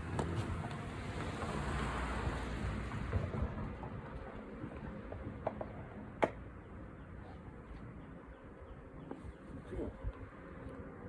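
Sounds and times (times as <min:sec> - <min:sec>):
passing traffic rumble: 0:00.0 - 0:09.0.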